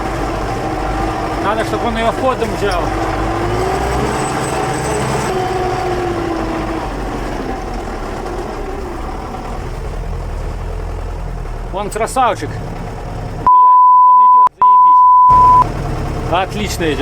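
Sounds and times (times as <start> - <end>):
heavy vehicle engine under load: 0.0 - 13.5, 14.7 - 17.0.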